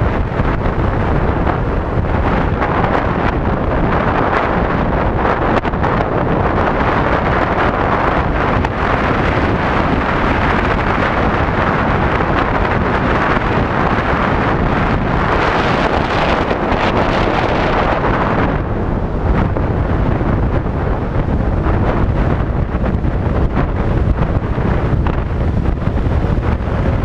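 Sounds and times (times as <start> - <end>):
road rumble: 0.0 - 27.0
wind buffeting on microphone: 0.0 - 27.0.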